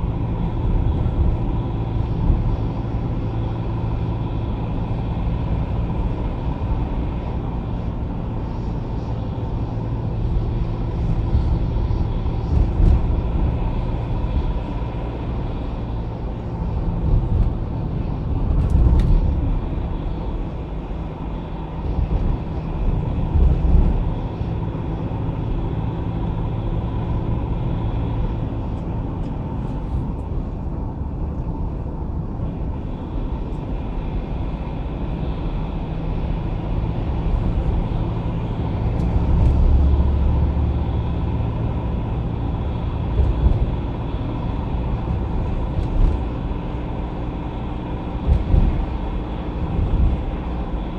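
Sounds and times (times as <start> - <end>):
car engine and tyre road noise: 0.0 - 50.9.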